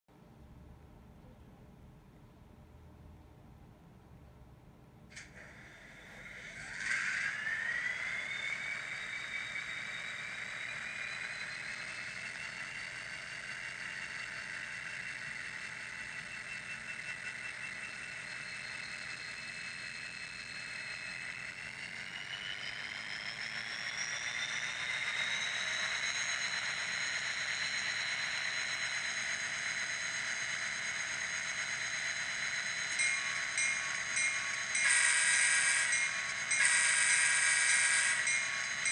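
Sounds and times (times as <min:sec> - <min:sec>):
model train diesel engine sound: 0:05.1 - 0:38.9
thin whine rising in pitch: 0:05.1 - 0:38.9.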